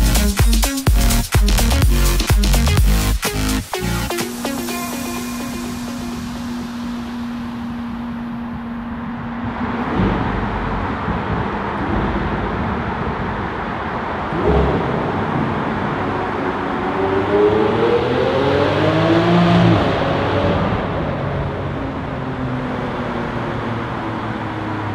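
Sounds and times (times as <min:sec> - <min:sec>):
road noise: 0:00.0 - 0:24.9
car engine accelerating: 0:01.4 - 0:24.9.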